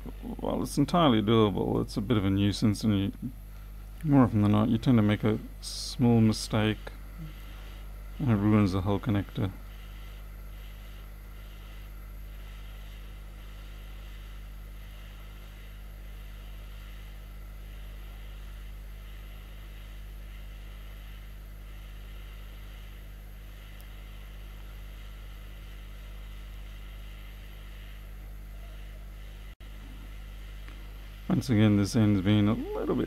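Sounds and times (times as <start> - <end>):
hot air station hissing: 0.0 - 33.0
low electrical hum: 0.0 - 33.0.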